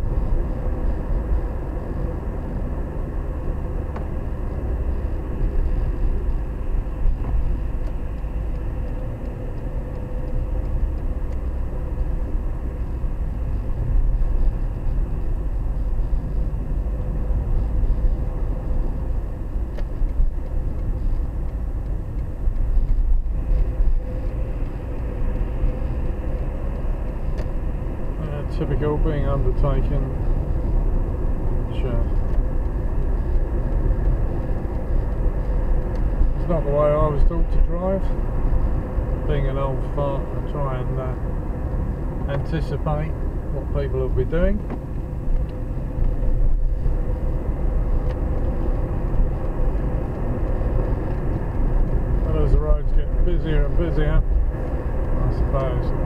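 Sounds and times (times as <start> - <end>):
car engine and tyre rumble: 0.0 - 56.0
faint engine hum: 0.0 - 56.0.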